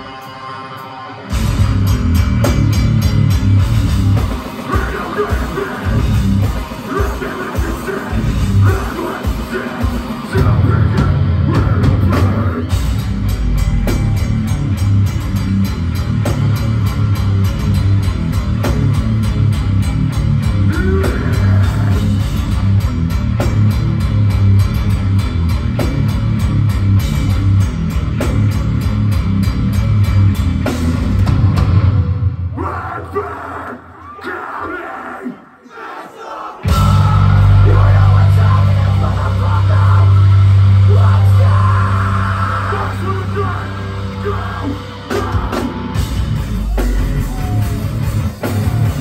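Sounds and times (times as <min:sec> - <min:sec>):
metal band playing live: 0:00.0 - 0:34.2, 0:36.6 - 0:49.0.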